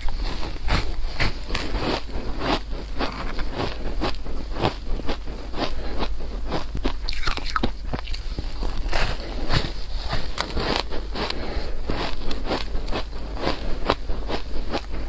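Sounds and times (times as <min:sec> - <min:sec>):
chewing crunchy shaved ice: 0:00.0 - 0:15.0.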